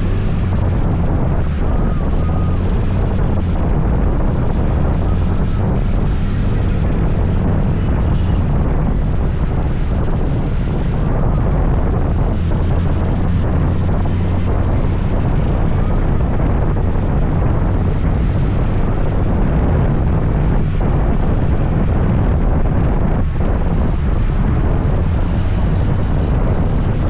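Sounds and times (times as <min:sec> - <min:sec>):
scooter engine drone: 0:00.0 - 0:27.0
wind rushing over microphone: 0:00.0 - 0:27.0.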